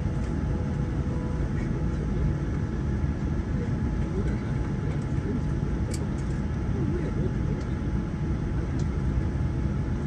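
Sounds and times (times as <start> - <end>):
airliner cabin rumble: 0.0 - 10.0
faint steady hum: 0.0 - 10.0.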